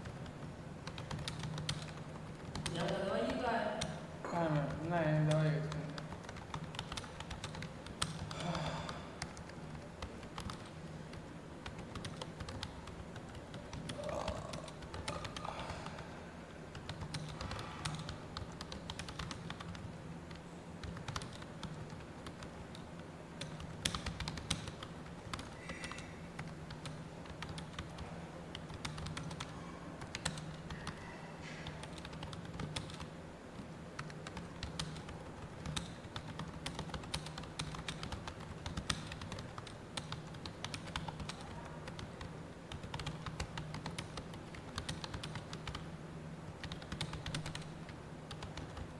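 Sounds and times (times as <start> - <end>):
fast keyboard typing: 0.0 - 48.9
steady low hum: 0.0 - 48.9.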